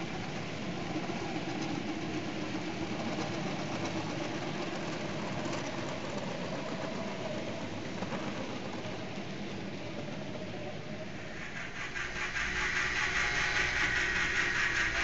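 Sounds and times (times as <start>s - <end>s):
model train wheels rumbling: 0.0s - 15.0s.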